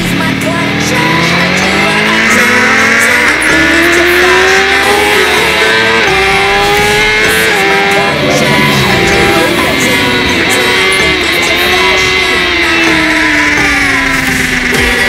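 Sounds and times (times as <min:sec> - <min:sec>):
motorcycle engine accelerating: 0:00.0 - 0:15.0
music: 0:00.0 - 0:15.0.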